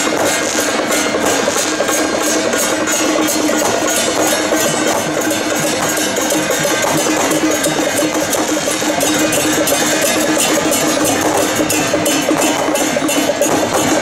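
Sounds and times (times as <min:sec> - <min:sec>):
cymbals and gongs beaten: 0:00.0 - 0:14.0
steady held tone: 0:00.0 - 0:14.0.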